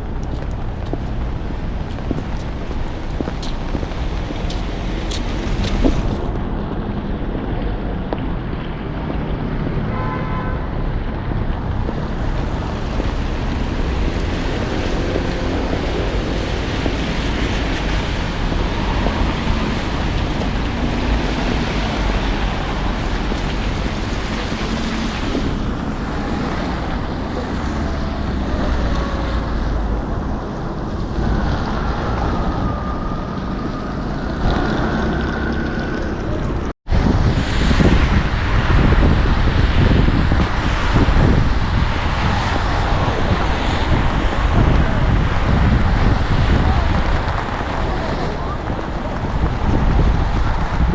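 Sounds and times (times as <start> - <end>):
traffic hiss on wet road: 0.0 - 32.5, 36.9 - 50.9
wind buffeting microphone: 0.0 - 50.9.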